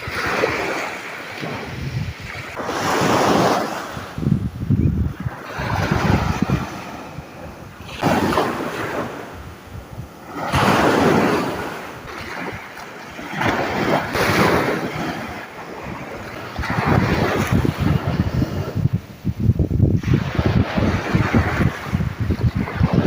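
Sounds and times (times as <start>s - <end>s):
sea waves washing in: 0.0s - 23.0s
wind buffeting microphone: 0.0s - 23.0s.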